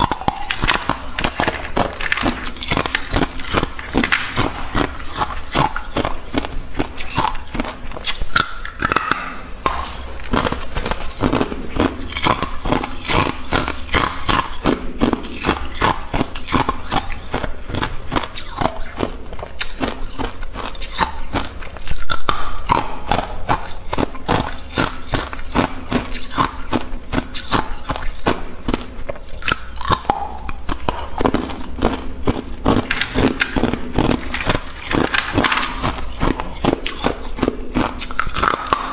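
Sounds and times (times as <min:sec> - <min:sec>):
ice being crunched: 0:00.0 - 0:22.1, 0:23.9 - 0:38.9.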